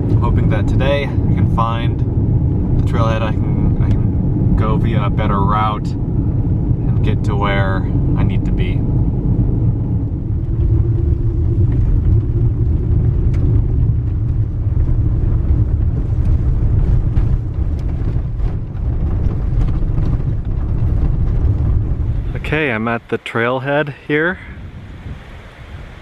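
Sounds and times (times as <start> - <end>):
engine and tyre rumble: 0.0 - 26.0.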